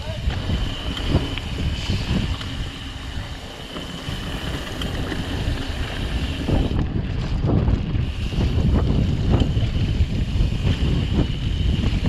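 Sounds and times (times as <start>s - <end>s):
bike knocking and rattling: 0.0s - 12.0s
wind rushing over microphone: 0.0s - 12.0s.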